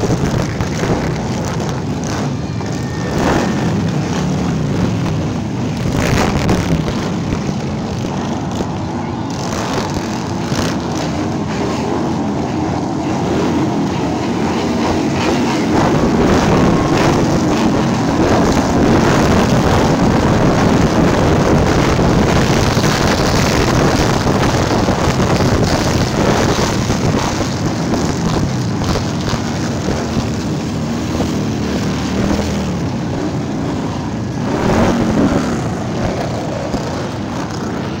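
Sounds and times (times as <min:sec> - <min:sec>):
motorcycles riding past: 0:00.0 - 0:38.0.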